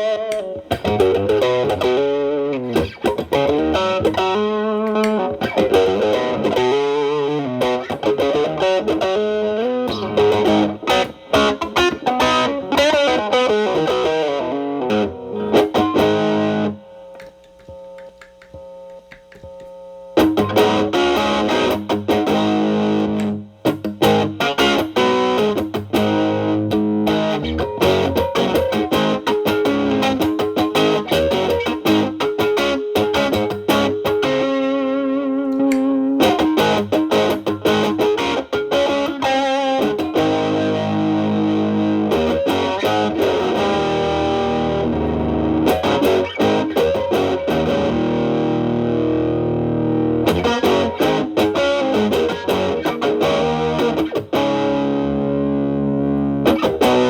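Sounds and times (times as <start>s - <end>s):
overdriven electric guitar lead: 0.0s - 57.0s.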